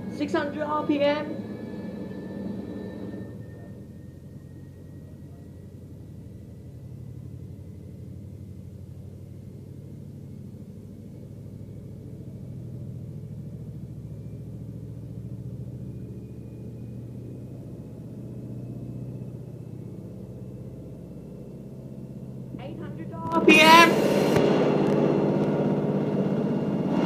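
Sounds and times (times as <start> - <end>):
faint rising whine: 0.0 - 27.0.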